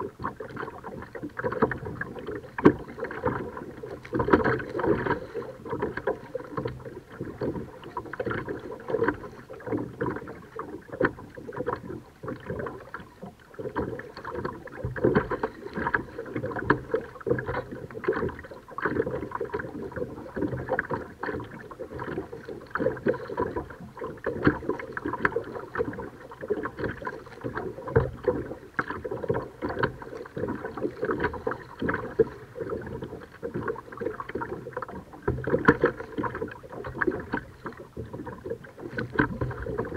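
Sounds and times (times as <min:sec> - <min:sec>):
paddle splashing: 0:00.0 - 0:39.9
water lapping against hull: 0:00.0 - 0:39.9.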